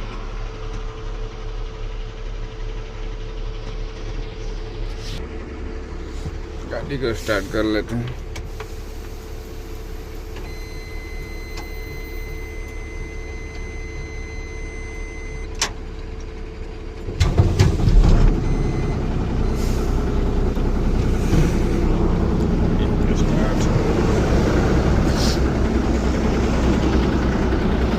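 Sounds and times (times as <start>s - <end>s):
diesel engine cranking and idling: 0.0s - 27.9s.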